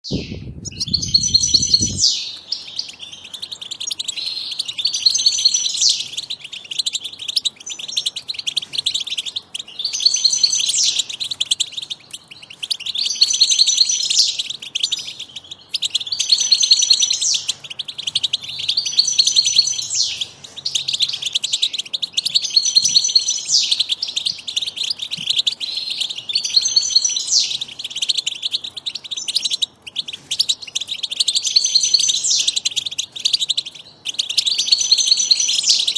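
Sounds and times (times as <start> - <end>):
bird chicks chirping: 0.0 - 35.9.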